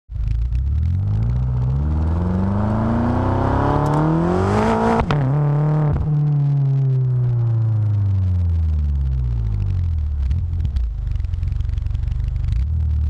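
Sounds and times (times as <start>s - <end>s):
exhaust cracks: 0.1s - 13.0s
car engine revving: 0.2s - 13.0s.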